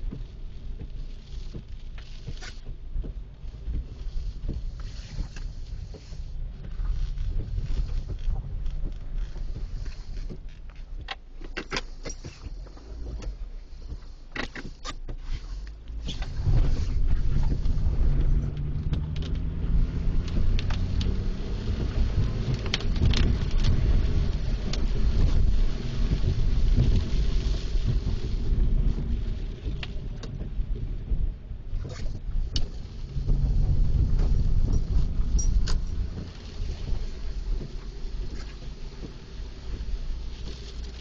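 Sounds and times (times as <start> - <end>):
low vehicle rumble: 0.0 - 11.4, 15.0 - 41.0.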